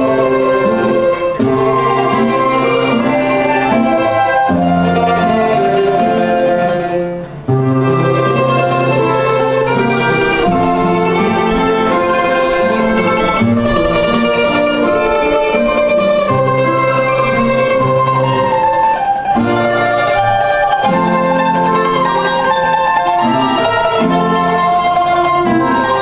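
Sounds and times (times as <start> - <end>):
mandolin and guitar ensemble: 0.0 - 26.0.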